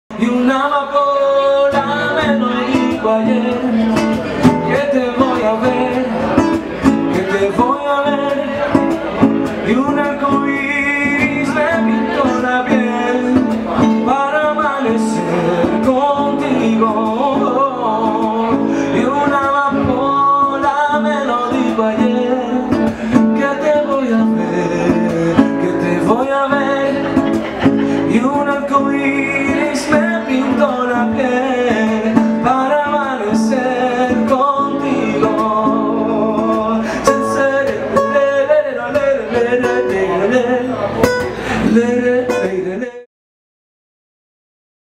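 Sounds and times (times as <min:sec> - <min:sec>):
acoustic guitar strummed and plucked: 0:00.1 - 0:43.1
man singing: 0:00.1 - 0:43.1.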